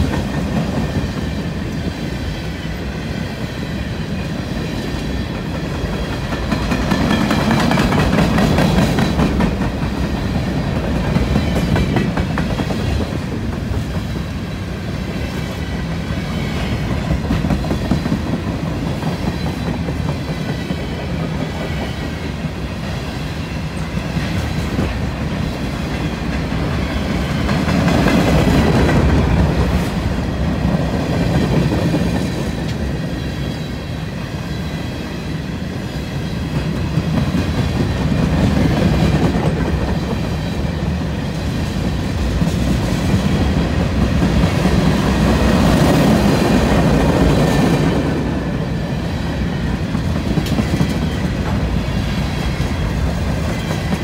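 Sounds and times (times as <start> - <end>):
clickety-clack over rail joints: 0.0 - 2.0, 4.1 - 33.6, 36.3 - 54.0
train wheels rumbling on rail: 0.0 - 54.0.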